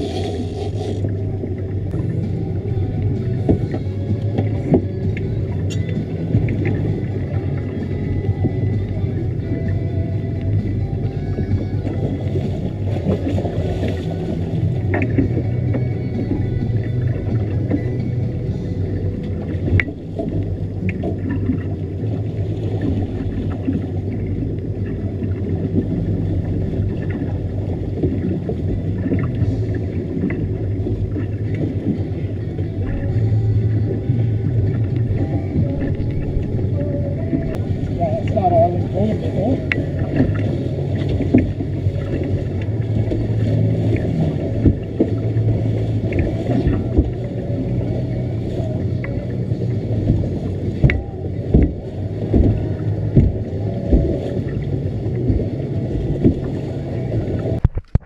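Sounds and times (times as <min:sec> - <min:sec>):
boat engine running: 0:00.0 - 0:58.0
water churning and splashing: 0:00.0 - 0:58.0.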